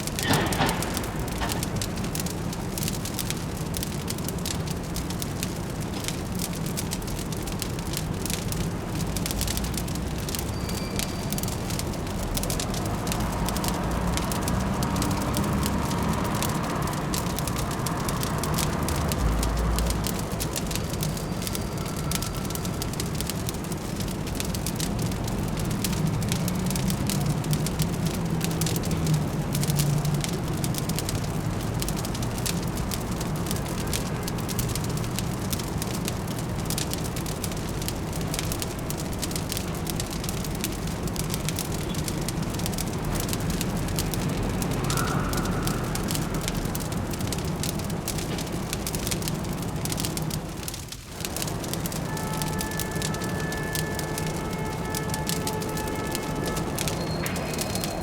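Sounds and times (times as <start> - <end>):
fireplace crackling: 0.0 - 58.0
low city rumble: 0.0 - 58.0.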